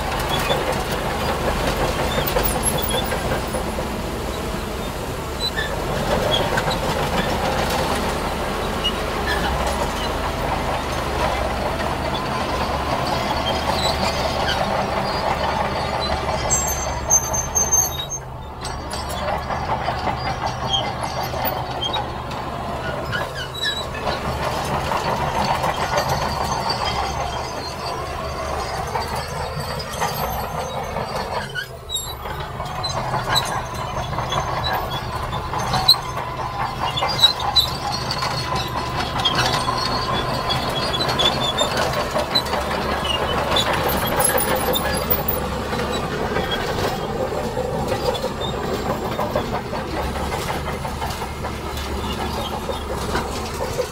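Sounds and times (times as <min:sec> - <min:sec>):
diesel engines under load: 0:00.0 - 0:53.9.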